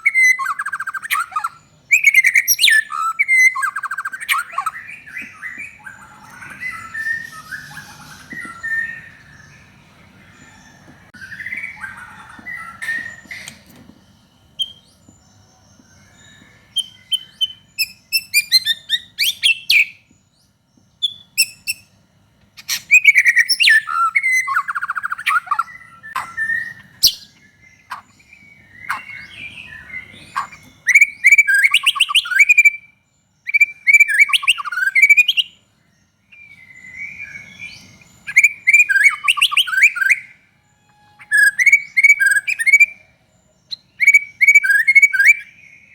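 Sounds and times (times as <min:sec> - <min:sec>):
songbird whistles and trills: 0:00.0 - 0:20.2, 0:20.9 - 0:22.0, 0:22.6 - 0:35.6, 0:36.2 - 0:45.9.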